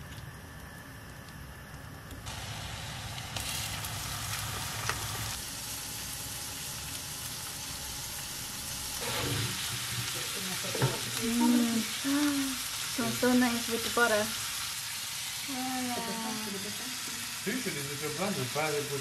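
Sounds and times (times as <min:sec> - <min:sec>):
meat sizzling in a frying pan: 0:02.3 - 0:19.0.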